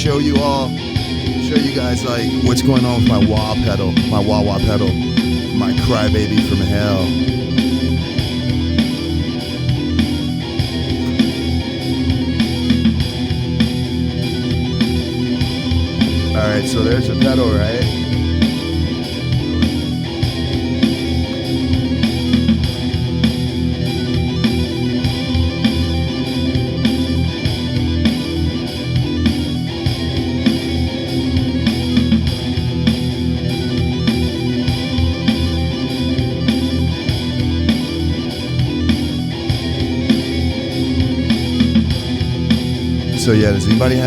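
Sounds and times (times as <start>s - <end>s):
electric guitar music with drum beat: 0.0s - 44.0s.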